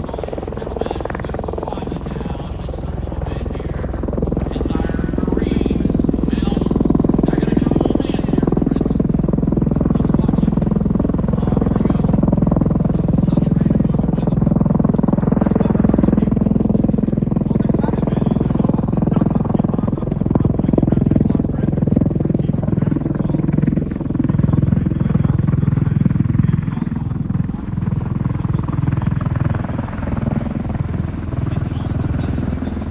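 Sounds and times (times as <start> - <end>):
aircraft rotors throbbing: 0.0 - 32.9.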